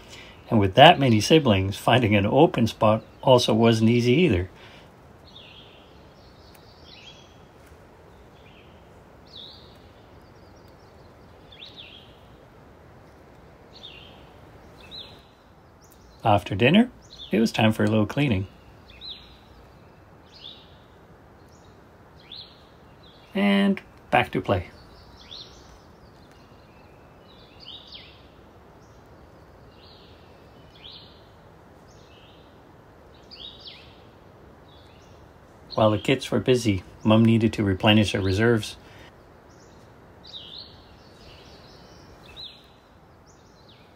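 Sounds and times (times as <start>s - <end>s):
bird chirping: 0.0s - 43.9s
outdoor hiss: 0.0s - 43.9s.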